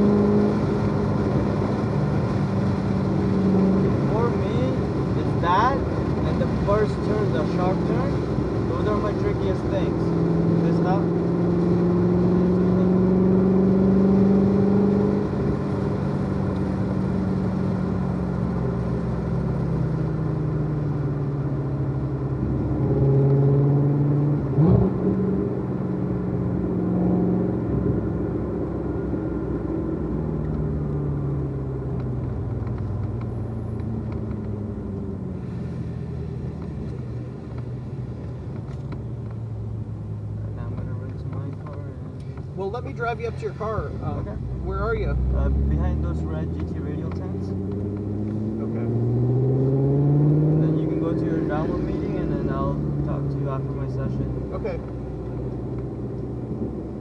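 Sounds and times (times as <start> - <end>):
car engine running at low revs: 0.0 - 57.0.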